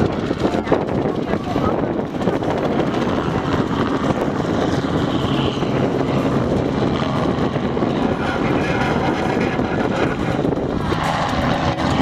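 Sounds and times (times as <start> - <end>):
helicopter engine hum: 0.0 - 12.0
helicopter rotor chop: 0.0 - 12.0.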